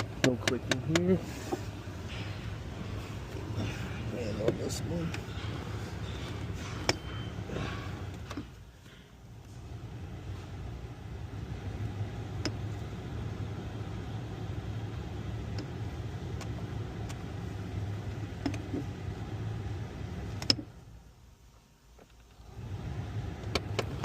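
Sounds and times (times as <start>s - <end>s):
car engine low hum: 0.0s - 24.0s.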